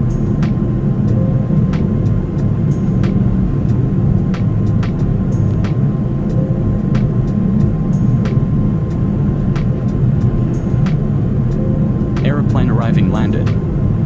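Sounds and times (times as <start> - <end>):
airliner rumble in flight: 0.0 - 14.0.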